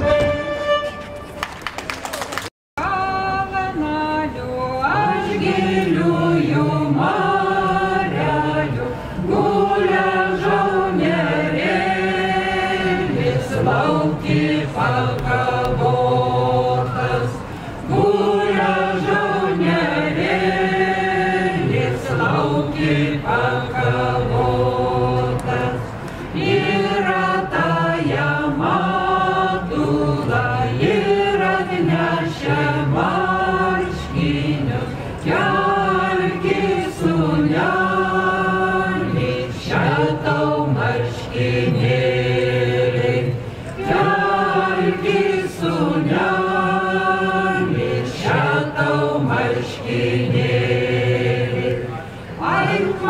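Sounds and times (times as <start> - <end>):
group of voices singing: 2.8 - 53.0.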